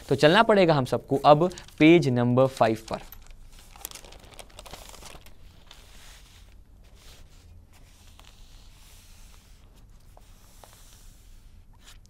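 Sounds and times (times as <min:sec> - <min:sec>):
newspaper pages rustling: 0:01.2 - 0:12.0.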